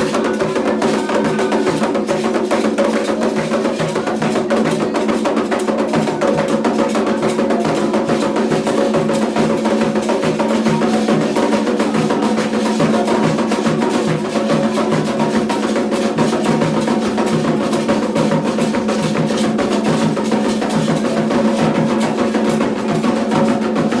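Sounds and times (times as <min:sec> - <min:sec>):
hand drums playing rhythm: 0:00.0 - 0:24.0.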